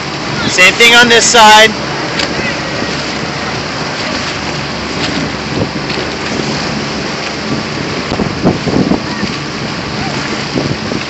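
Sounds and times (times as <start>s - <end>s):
wind and water rushing: 0.0s - 11.0s
short splashes or knocks: 1.9s - 11.0s.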